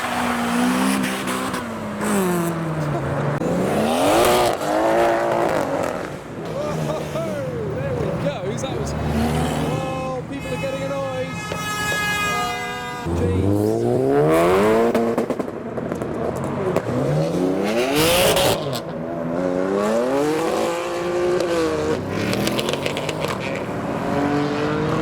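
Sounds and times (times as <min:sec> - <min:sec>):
cars accelerating hard: 0:00.0 - 0:10.4, 0:13.0 - 0:25.0.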